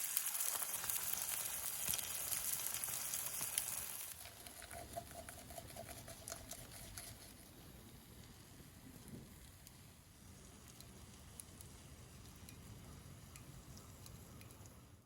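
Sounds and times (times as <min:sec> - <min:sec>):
campfire sizzling and crackling: 0:00.0 - 0:14.9.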